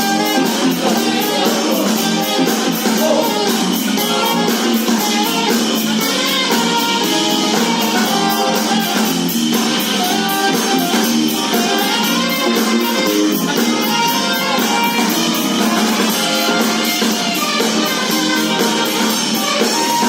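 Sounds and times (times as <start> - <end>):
drums: 0.0 - 20.0
guitar: 0.0 - 20.0
hi-hat beat: 0.0 - 20.0
saxophone melody: 0.0 - 20.0.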